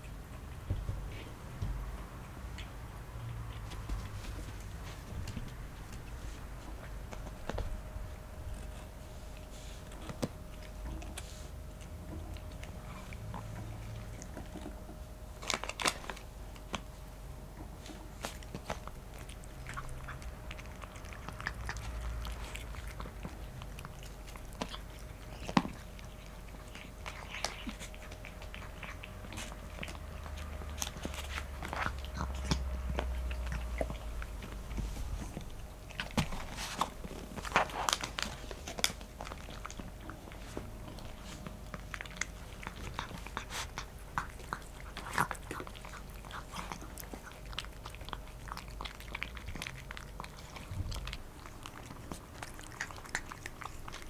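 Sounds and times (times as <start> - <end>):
cats crunching snacks: 0.0 - 54.0.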